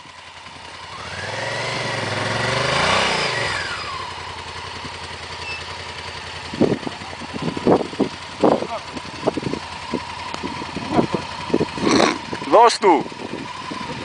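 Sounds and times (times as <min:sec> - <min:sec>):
motorcycle passing by: 0:00.0 - 0:14.0
steady engine hum: 0:00.0 - 0:14.0.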